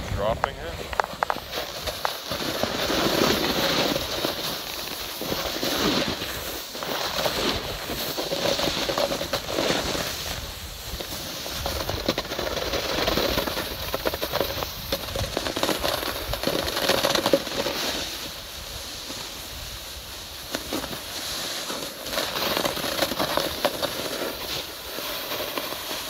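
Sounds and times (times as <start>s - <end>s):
snowboard scraping over snow: 0.0s - 26.0s
wind: 0.0s - 26.0s.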